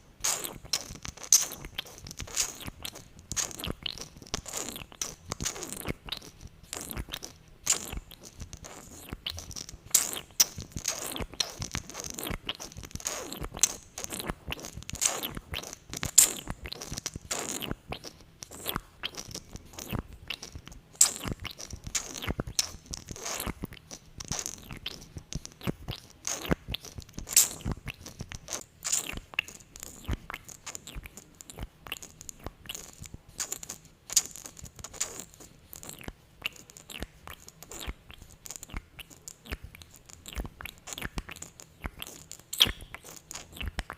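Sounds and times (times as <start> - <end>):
sticky lip smacks and clicks: 0.2 - 43.9.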